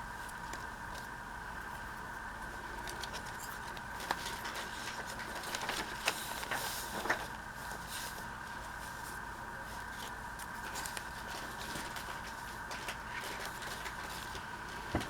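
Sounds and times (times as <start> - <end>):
paper rustling: 2.8 - 15.0.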